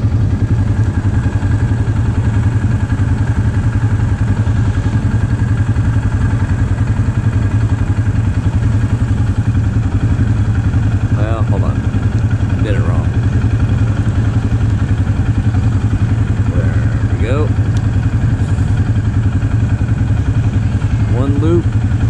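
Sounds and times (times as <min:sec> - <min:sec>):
atv engine idling: 0:00.0 - 0:22.0.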